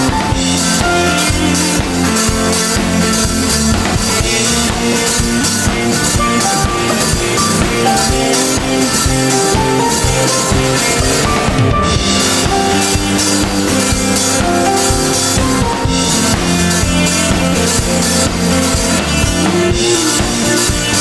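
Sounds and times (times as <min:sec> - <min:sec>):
drum kit: 0:00.0 - 0:21.0
electric bass: 0:00.0 - 0:21.0
guitar: 0:00.0 - 0:21.0
keyboard: 0:00.0 - 0:21.0.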